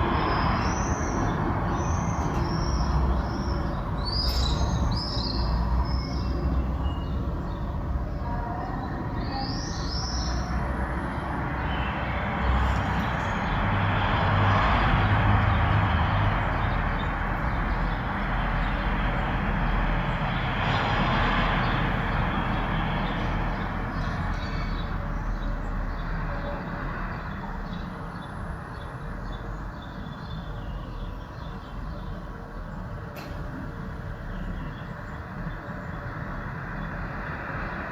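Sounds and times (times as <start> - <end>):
passing traffic rushing: 0.0 - 37.9.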